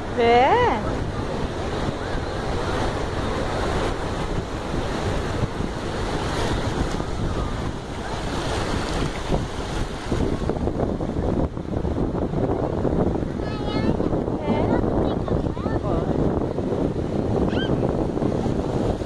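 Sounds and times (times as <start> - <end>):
surf washing over beach: 0.0 - 19.0
wind noise on microphone: 0.0 - 19.0.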